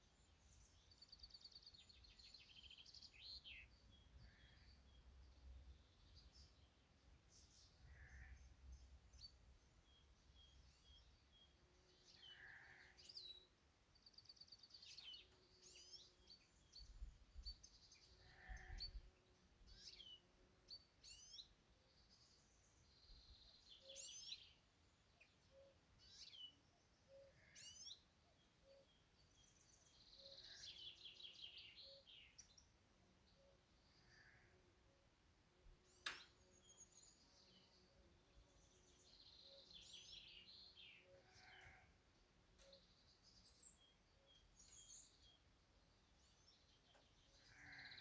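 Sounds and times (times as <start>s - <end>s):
songbirds singing and trilling: 0.0s - 48.0s.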